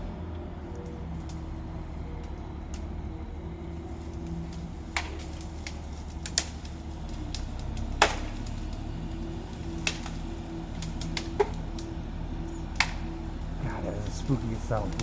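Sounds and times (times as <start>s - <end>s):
crane engine hum: 0.0s - 15.0s
wood cracking and snapping: 0.0s - 15.0s.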